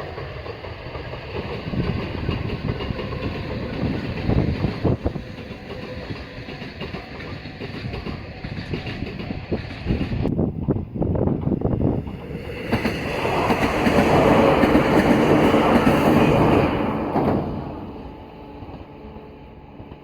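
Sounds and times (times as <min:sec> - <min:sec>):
train wheels clacking over rail joints: 0:00.0 - 0:10.3, 0:11.4 - 0:18.9
train rushing past: 0:00.0 - 0:20.0.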